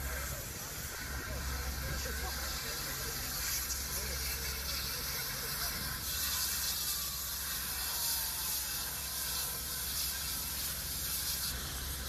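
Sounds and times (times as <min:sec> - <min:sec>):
fire hoses spraying water: 0:00.0 - 0:12.0.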